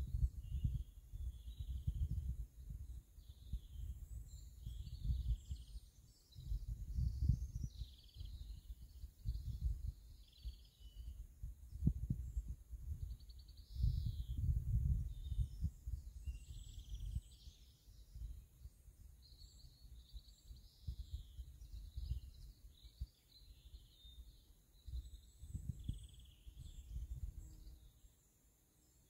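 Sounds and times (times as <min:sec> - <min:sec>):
wind rumbling on microphone: 0:00.0 - 0:27.9
small birds chirping: 0:00.0 - 0:29.0.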